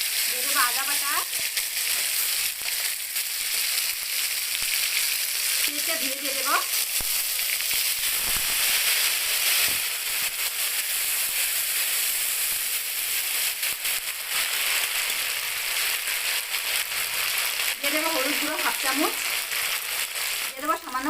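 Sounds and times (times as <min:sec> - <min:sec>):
onion sizzling in hot oil: 0:00.0 - 0:21.0.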